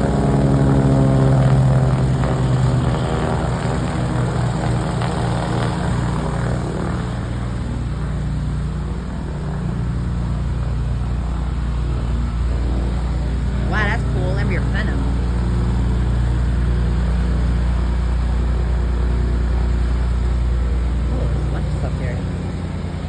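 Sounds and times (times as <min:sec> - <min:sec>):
propeller aircraft engine droning: 0:00.0 - 0:23.0.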